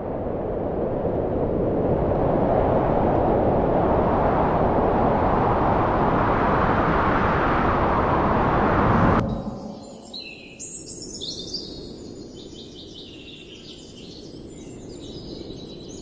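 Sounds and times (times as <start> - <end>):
rushing wind noise: 0.0 - 13.5.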